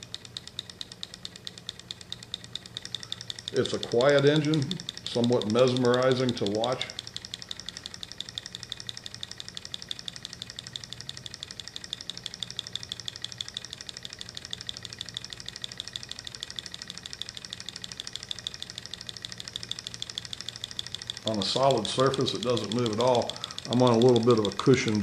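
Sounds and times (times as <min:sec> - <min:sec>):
stirling engine ticking: 0:00.0 - 0:25.0.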